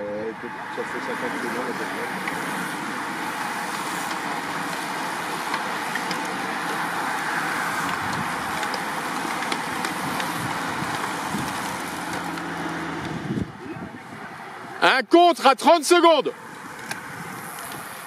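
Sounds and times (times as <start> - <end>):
bicycle tyres whirring on tarmac: 0.0 - 18.0.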